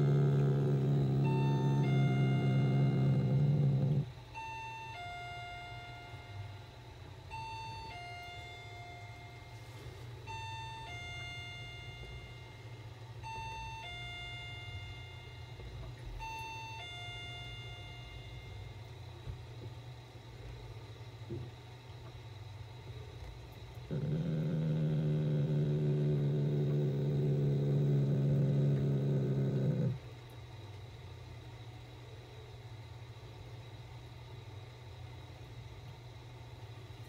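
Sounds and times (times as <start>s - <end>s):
equipment buzzing hum: 0.0s - 37.0s
low steady hum: 0.0s - 37.0s.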